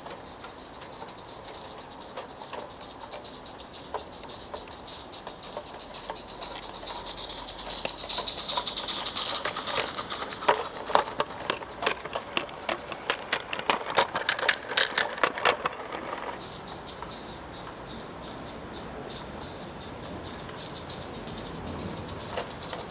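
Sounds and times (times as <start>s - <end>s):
wagons clattering over track: 0.0s - 17.4s, 19.7s - 22.9s
steam hissing: 0.0s - 22.9s.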